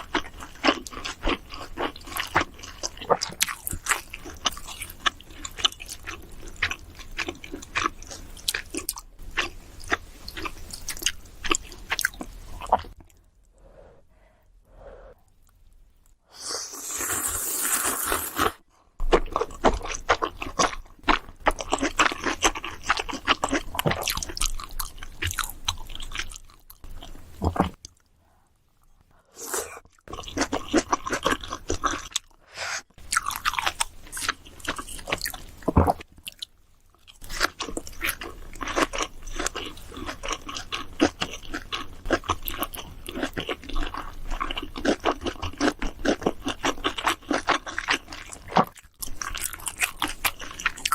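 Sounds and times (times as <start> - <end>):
chewing and crunching food: 0.0 - 13.6, 16.8 - 50.9.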